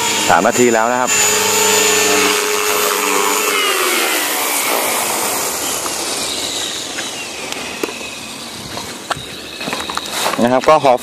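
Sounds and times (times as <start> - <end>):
rc helicopter spooling down: 0.0 - 10.9.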